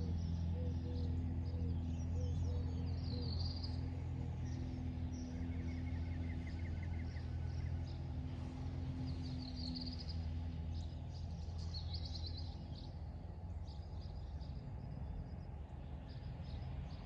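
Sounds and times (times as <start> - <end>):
low steady rumble: 0.0 - 17.0
songbird trills: 0.0 - 17.0.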